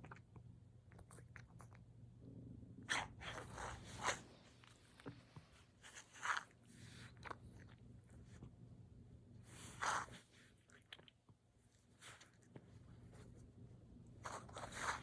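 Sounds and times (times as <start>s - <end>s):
cat chewing catnip: 0.0s - 1.9s, 2.9s - 8.6s, 9.4s - 13.4s, 14.0s - 15.0s
faint low hum: 0.0s - 15.0s.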